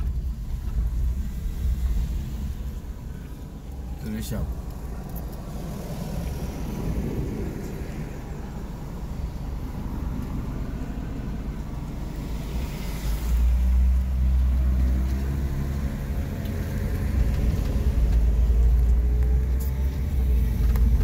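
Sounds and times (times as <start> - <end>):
car engine drone: 0.0 - 21.0
road rumble: 0.0 - 21.0.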